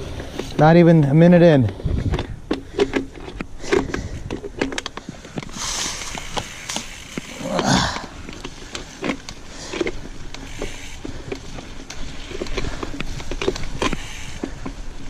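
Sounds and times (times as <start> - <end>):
bike clicks and rattles: 0.0 - 15.0
bike tyres rumbling on trail: 0.0 - 15.0.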